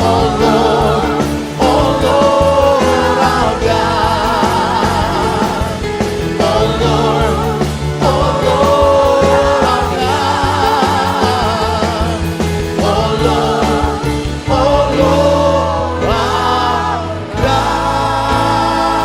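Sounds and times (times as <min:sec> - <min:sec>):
praise band playing: 0:00.0 - 0:19.0
voices singing slow song: 0:00.0 - 0:19.0.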